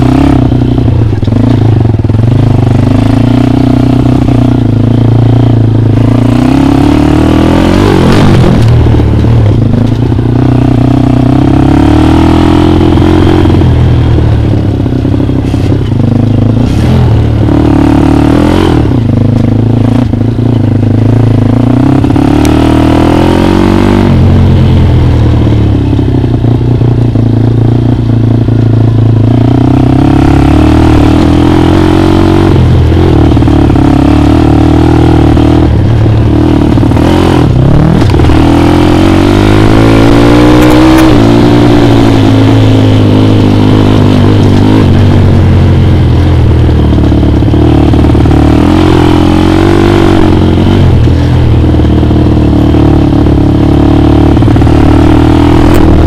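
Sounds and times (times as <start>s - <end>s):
dirt bike engine revving: 0.0s - 1.6s, 2.2s - 19.2s, 19.8s - 25.8s, 28.5s - 56.0s.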